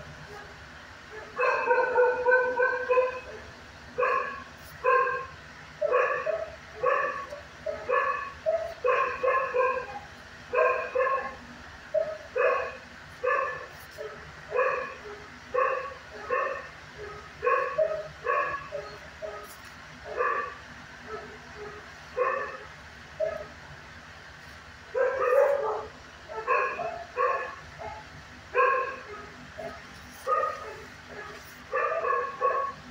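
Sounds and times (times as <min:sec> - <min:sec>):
dog barking: 0:00.3 - 0:23.6, 0:24.9 - 0:32.9.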